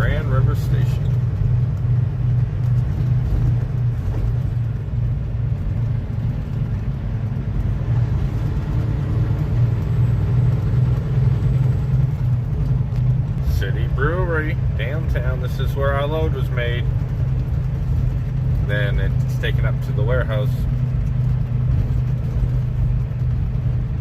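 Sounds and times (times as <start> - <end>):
truck engine and road rumble: 0.0 - 24.0.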